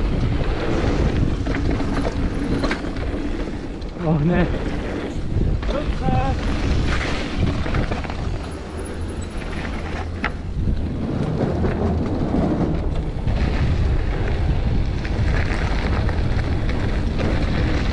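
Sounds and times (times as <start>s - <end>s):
bike rattling and clicking: 0.0s - 17.9s
bike tyres rolling on gravel: 0.0s - 17.9s
wind buffeting microphone: 0.0s - 17.9s.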